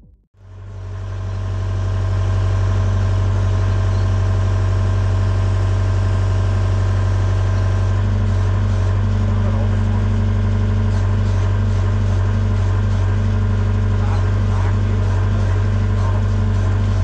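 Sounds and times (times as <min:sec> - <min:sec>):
diesel engine idling: 0:00.4 - 0:17.0.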